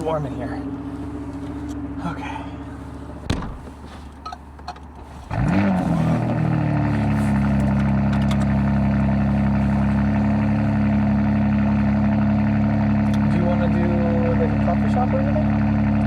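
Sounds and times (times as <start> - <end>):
car engine starting and idling: 0.0 - 16.0.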